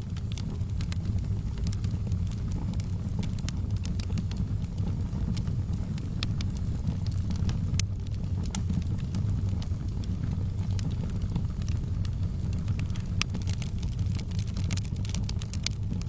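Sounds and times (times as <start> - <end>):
low rumble of burning: 0.0 - 16.0
wood fire crackling: 0.0 - 16.0
sharp pops and snaps: 0.1 - 16.0.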